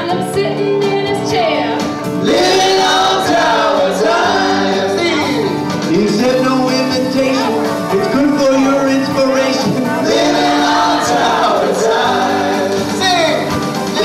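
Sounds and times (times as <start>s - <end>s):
acoustic guitar: 0.0s - 14.0s
voices singing together: 2.2s - 14.0s.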